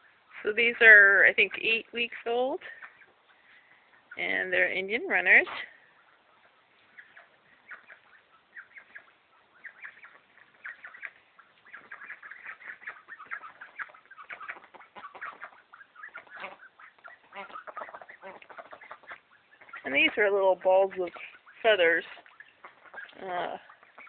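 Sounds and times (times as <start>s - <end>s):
ducklings calling: 0.0s - 24.0s.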